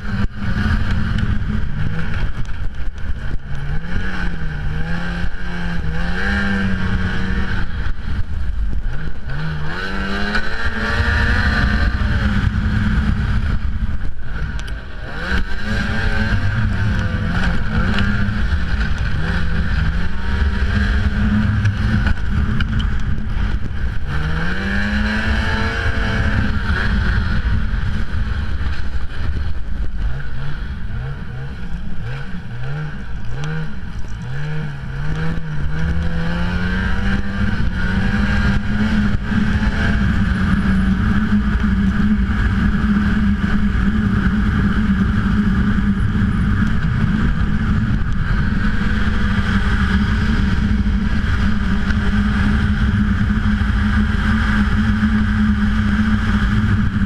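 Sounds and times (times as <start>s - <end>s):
snowmobile engine revving: 0.0s - 2.4s, 3.1s - 57.0s.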